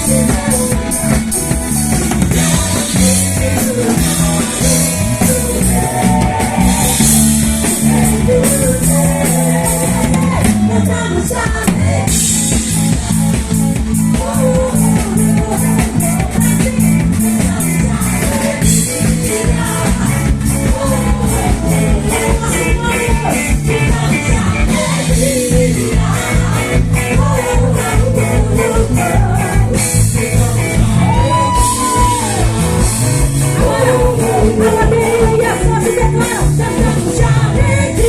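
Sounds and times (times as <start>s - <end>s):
person singing: 0.0s - 1.3s, 2.2s - 38.0s
live band playing upbeat song: 0.0s - 38.0s.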